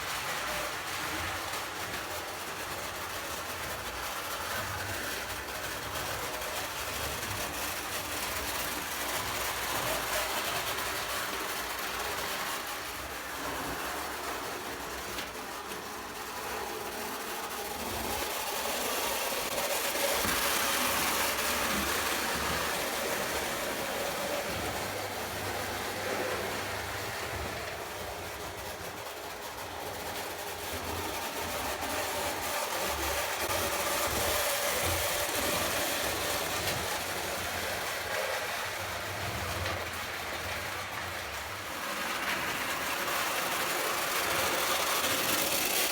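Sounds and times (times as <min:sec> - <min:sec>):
toy train rolling on rails: 0:00.0 - 0:45.9.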